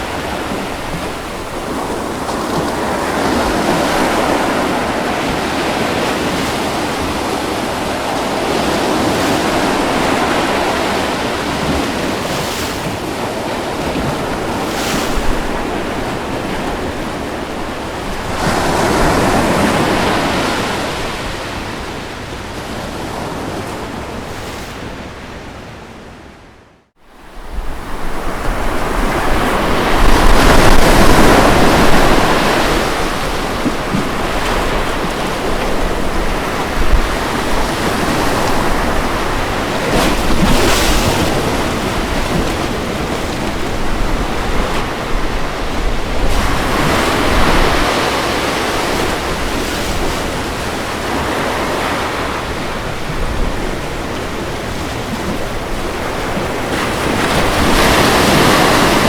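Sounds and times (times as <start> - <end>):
ocean waves crashing on beach: 0.0 - 59.0.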